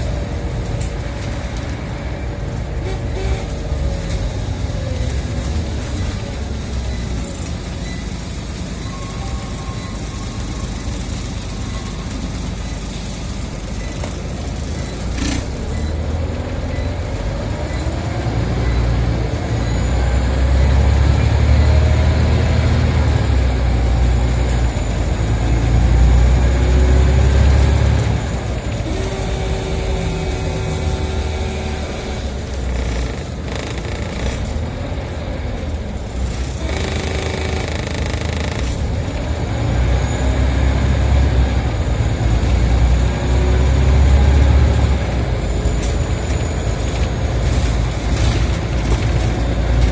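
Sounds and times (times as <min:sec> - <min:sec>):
bus engine rumble: 0:00.0 - 0:49.9.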